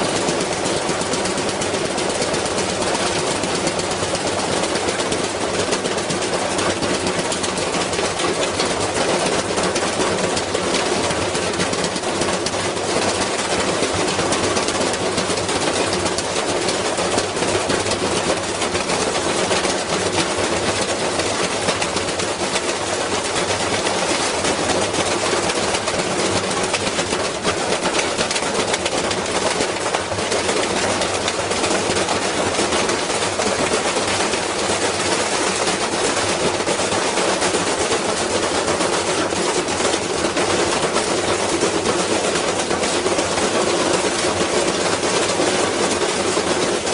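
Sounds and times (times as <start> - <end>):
washing machine rattling and banging: 0.0 - 46.9.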